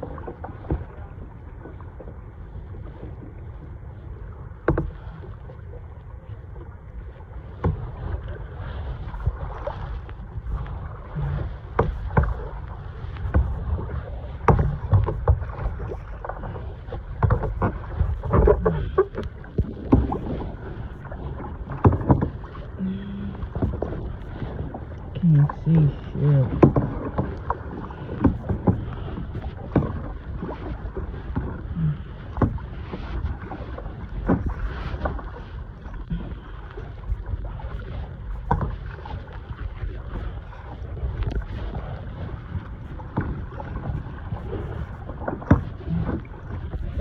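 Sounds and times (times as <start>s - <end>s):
paddle splashing water: 0.0s - 47.0s
wind rumble on microphone: 0.0s - 47.0s.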